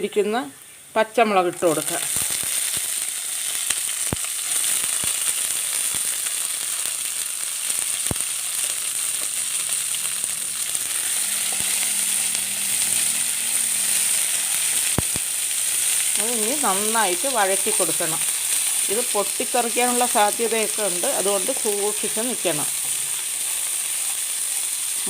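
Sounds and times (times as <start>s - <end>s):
chillies sizzling in oil: 0.0s - 25.0s
sharp pops of frying: 1.5s - 25.0s.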